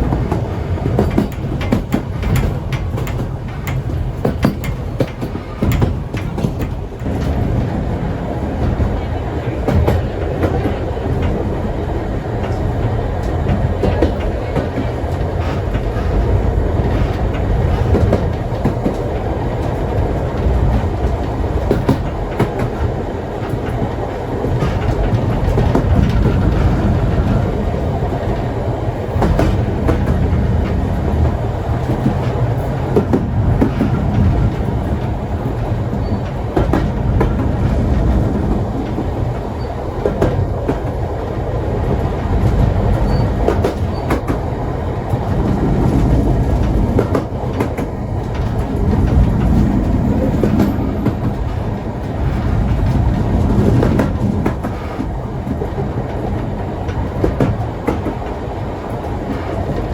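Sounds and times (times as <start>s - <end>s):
train carriages rumbling on track: 0.0s - 59.9s
wheels clacking over rail joints: 0.0s - 59.9s.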